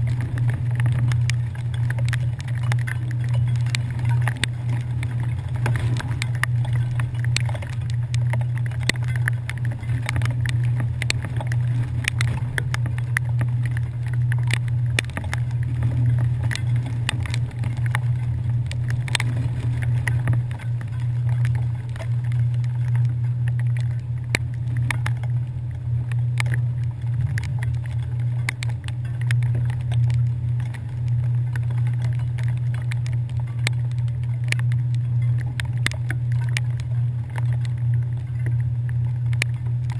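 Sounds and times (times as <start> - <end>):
rain and spray ticking on camera: 0.0 - 39.9.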